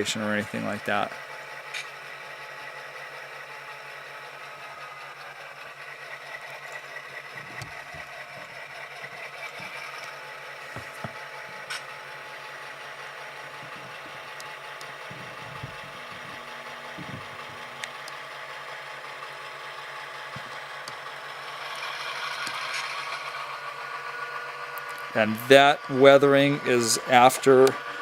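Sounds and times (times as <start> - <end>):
diesel engine drone through small speakers: 0.0 - 28.0.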